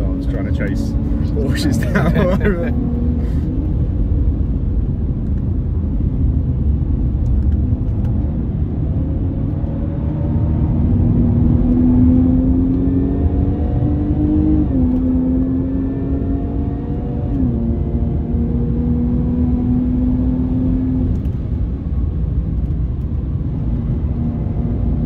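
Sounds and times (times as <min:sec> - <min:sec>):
car engine accelerating: 0:00.0 - 0:25.0
road and tyre rumble: 0:00.0 - 0:25.0.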